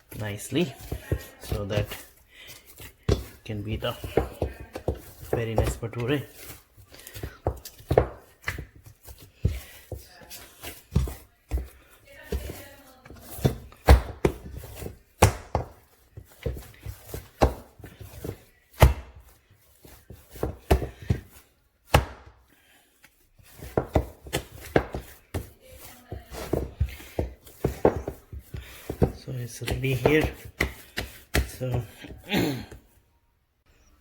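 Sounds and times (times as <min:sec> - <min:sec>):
dough kneaded and slapped: 0:00.0 - 0:32.9.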